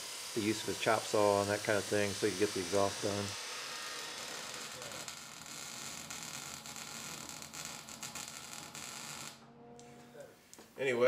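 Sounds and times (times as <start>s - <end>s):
arc welding crackling hiss: 0.0s - 9.4s.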